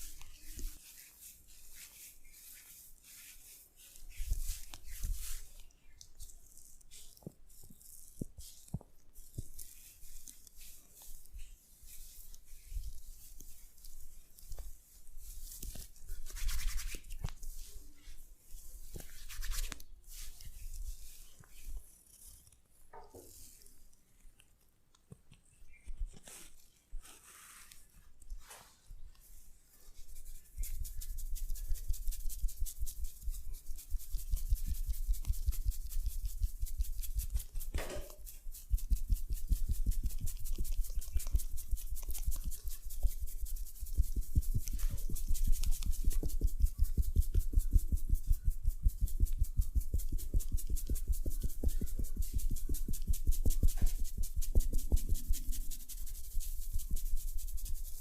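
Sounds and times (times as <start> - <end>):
soft rubbing: 0.0 - 24.2, 25.5 - 58.0.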